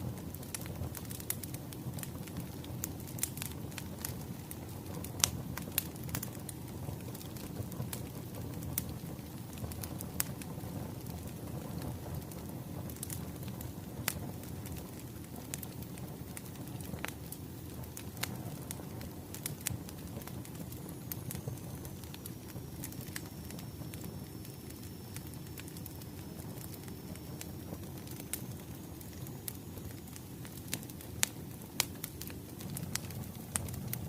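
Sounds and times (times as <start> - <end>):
firewood crackling and popping: 0.0 - 34.0
wood fire rumbling: 0.0 - 34.0.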